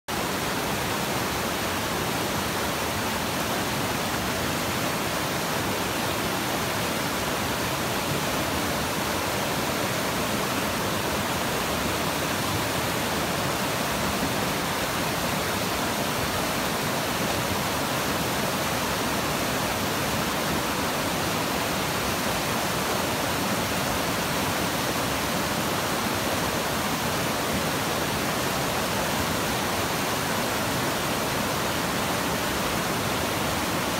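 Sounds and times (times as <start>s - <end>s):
river rushing over boulders: 0.1s - 33.9s.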